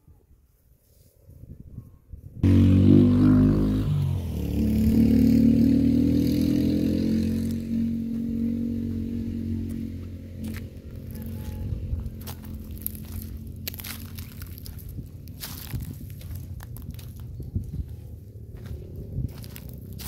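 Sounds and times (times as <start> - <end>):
engine running: 2.4 - 20.0.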